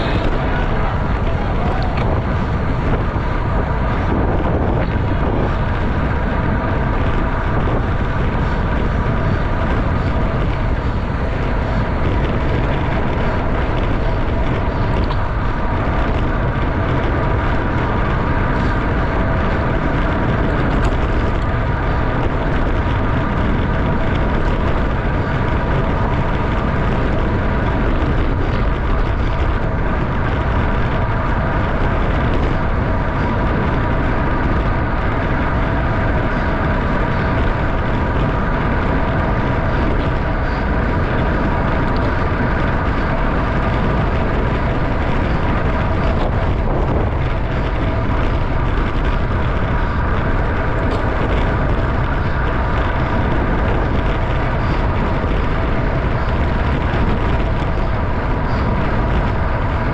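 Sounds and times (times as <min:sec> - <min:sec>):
bicycle tyres and drivetrain hum: 0:00.0 - 0:59.9
wind rushing over microphone: 0:00.0 - 0:59.9.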